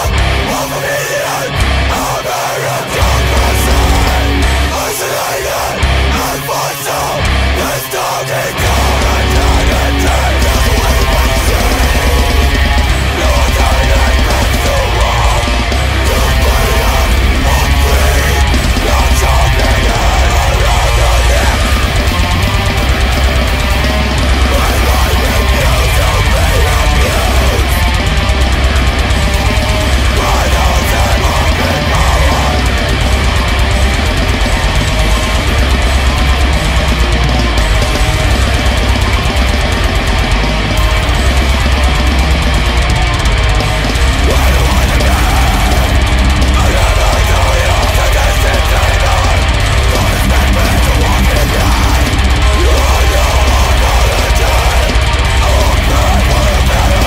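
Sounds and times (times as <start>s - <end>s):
distorted guitars: 0.0s - 57.0s
heavy metal band playing: 0.0s - 57.0s
programmed drums: 0.0s - 57.0s.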